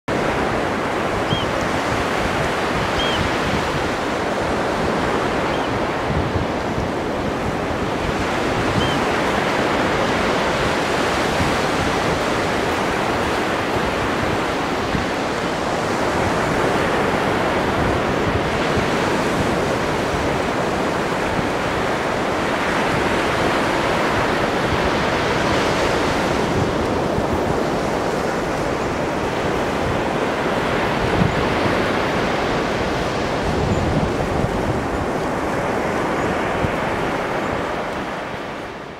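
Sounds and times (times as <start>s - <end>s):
ocean surf washing on beach: 0.1s - 38.9s
wind buffeting microphone: 0.1s - 38.9s.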